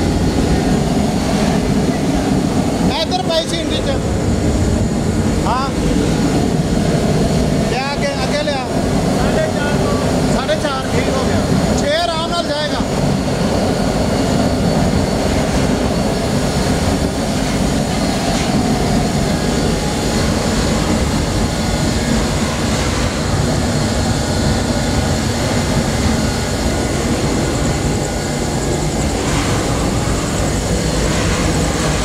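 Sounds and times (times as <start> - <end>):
burner flame and forced air roar: 0.0 - 32.0.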